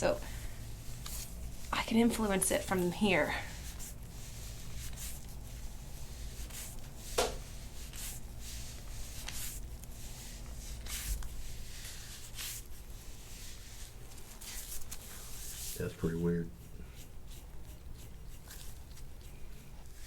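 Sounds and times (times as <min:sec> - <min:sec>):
low steady hum: 0:00.0 - 0:20.0
hands rubbing skin and clothing: 0:00.6 - 0:20.0.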